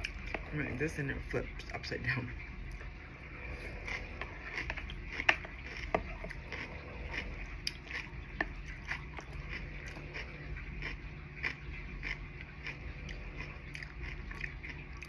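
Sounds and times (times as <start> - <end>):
person chewing: 0.0 - 0.5, 2.6 - 15.0.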